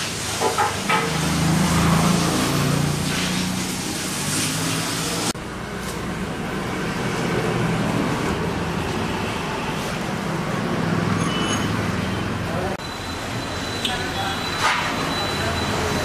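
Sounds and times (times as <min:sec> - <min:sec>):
street traffic humming: 0:00.0 - 0:16.0.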